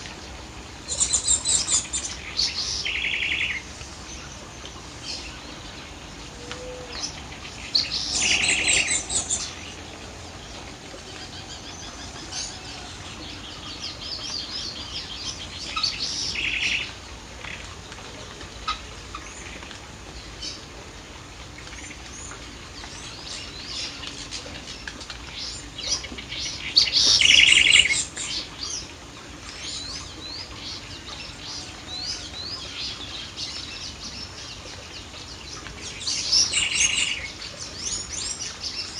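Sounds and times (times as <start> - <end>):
birds singing and chirping: 0.0 - 20.7, 21.6 - 38.9.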